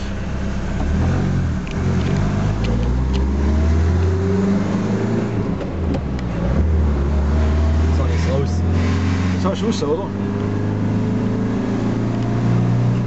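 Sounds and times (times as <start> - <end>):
diesel engine accelerating: 0.0 - 13.0.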